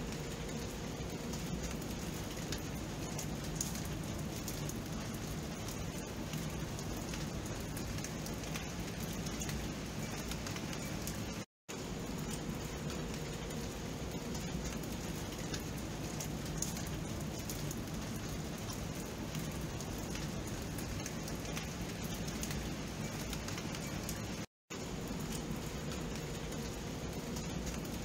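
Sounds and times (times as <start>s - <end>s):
raindrop ticks: 0.0s - 28.0s
steady rain: 0.0s - 28.0s.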